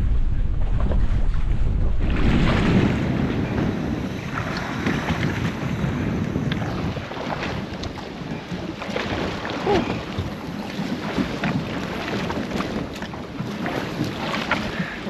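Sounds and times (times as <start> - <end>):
water washing against boat: 0.0 - 15.0
wind buffeting microphone: 0.0 - 15.0.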